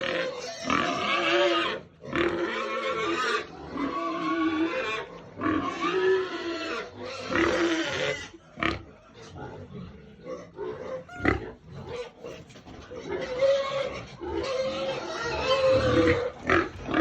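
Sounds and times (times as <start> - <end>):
pig squealing: 0.0 - 17.0.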